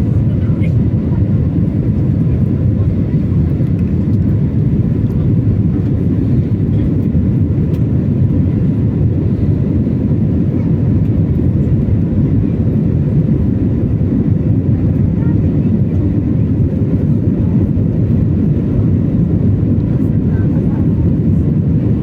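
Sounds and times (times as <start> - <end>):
airliner cabin jet roar: 0.0 - 22.0.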